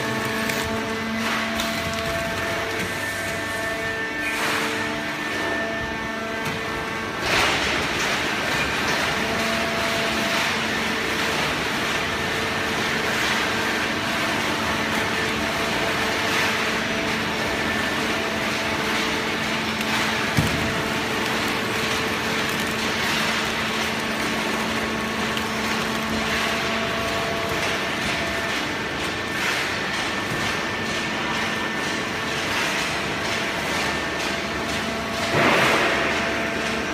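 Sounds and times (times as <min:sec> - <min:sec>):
hydraulic unit humming: 0:00.0 - 0:36.9.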